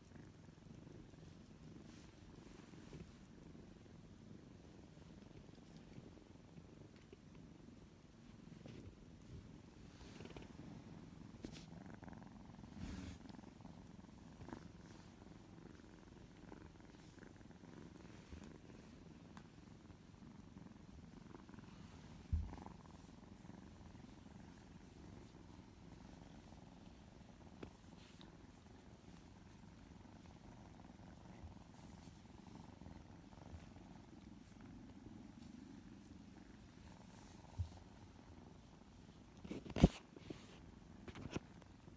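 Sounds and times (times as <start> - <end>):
kitten purring: 0.0 - 41.9.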